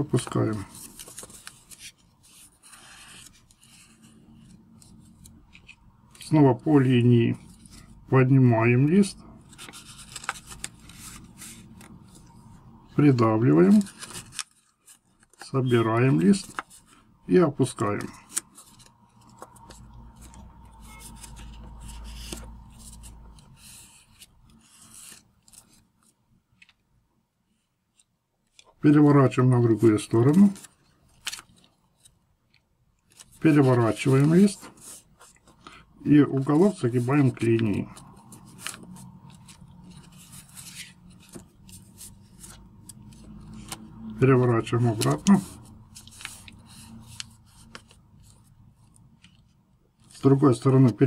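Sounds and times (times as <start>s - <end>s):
paper rustling and crinkling: 0.0s - 26.8s, 27.5s - 51.0s.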